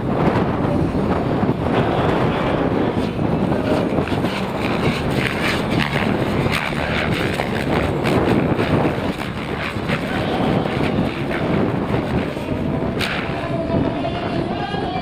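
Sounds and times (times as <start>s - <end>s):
helicopter rotors whirring: 0.0s - 14.3s
wind noise on microphone: 0.0s - 15.0s.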